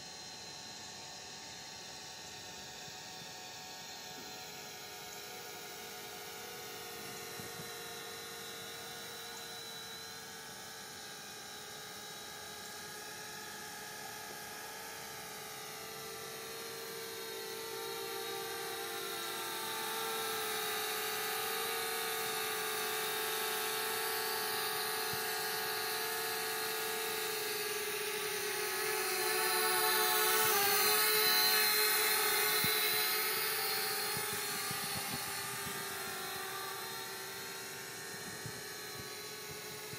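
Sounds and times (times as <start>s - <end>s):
drone propellers buzzing: 3.0s - 39.9s.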